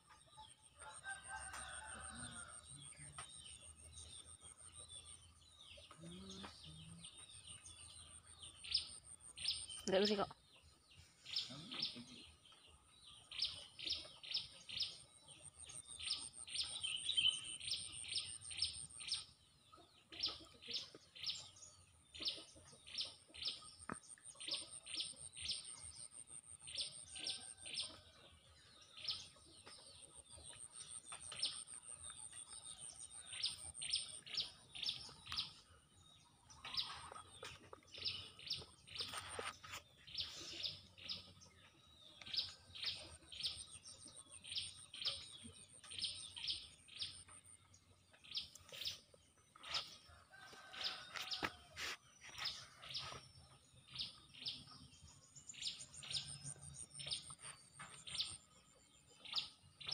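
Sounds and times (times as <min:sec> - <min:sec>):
small birds chirping: 0:01.1 - 0:28.0, 0:28.6 - 0:59.9.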